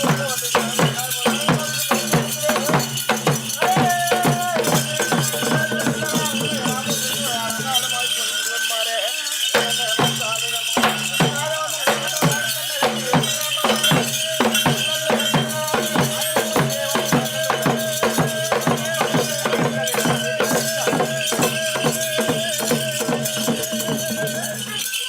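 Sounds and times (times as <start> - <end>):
steady drumbeat: 0.0 - 8.7, 9.4 - 25.0
jingling rattle: 0.0 - 25.0.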